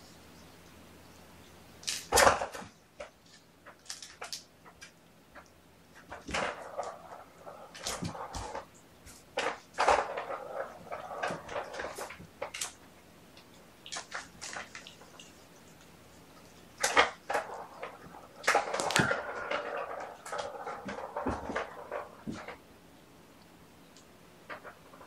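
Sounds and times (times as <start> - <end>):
kittens rustling and scratching: 0.0 - 22.7, 23.9 - 25.0.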